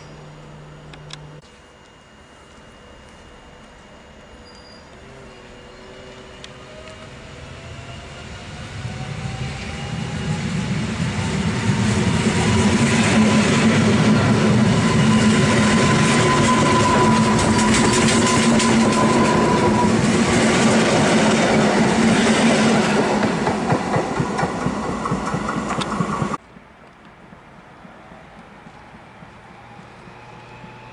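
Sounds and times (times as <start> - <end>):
train traction motors whining: 0.0 - 26.4.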